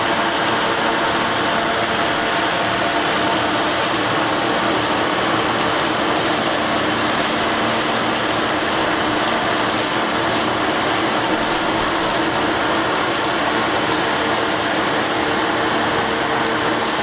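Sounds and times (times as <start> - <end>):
track maintenance machine engine hum: 0.0 - 17.0.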